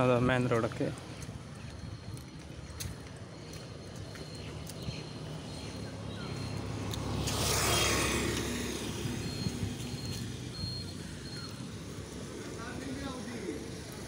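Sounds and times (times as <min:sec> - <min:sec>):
vehicle passing on road: 0:00.0 - 0:14.0.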